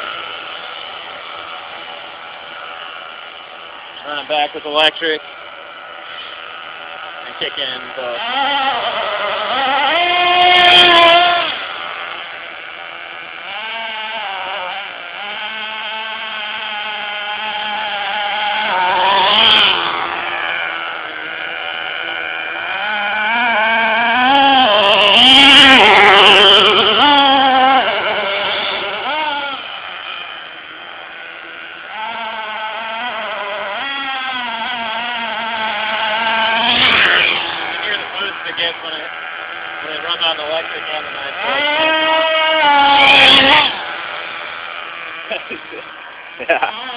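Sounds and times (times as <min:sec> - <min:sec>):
small nitro engine revving: 0:00.0 - 0:46.9.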